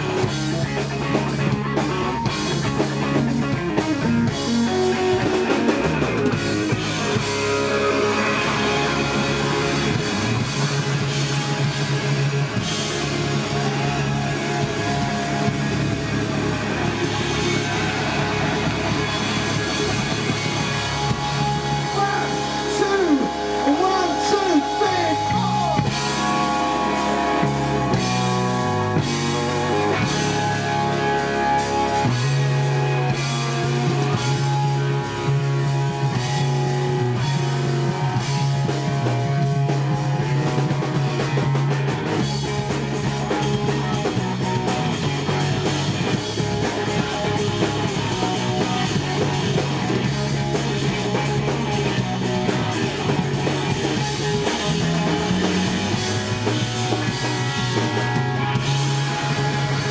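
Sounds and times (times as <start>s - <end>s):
bass guitar riff: 0.0s - 59.9s
drum kit: 0.0s - 59.9s
electric guitar lead: 0.0s - 59.9s.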